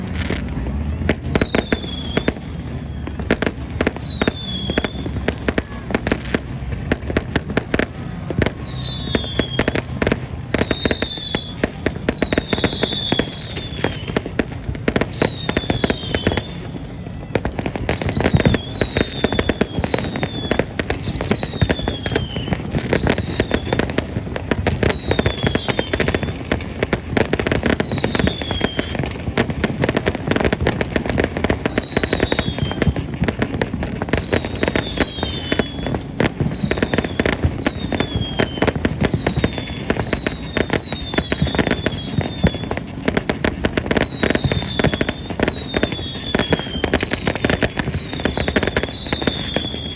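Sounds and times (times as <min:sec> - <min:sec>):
fireworks bangs and crackles: 0:00.0 - 0:49.9
fireworks whistles falling in pitch: 0:00.0 - 0:49.9.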